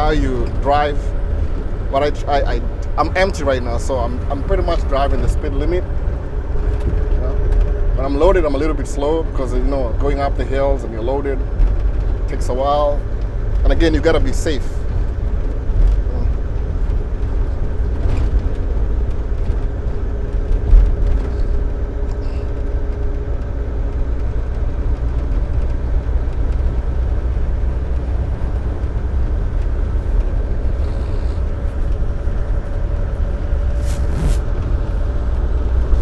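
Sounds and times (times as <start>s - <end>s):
diesel engine rumble: 0.0s - 36.0s
road noise: 0.0s - 36.0s.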